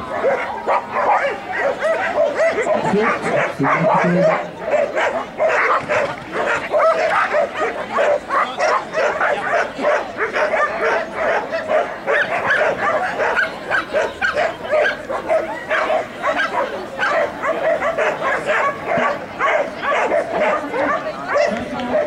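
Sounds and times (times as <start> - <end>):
dog barking quickly: 0.1 - 22.0.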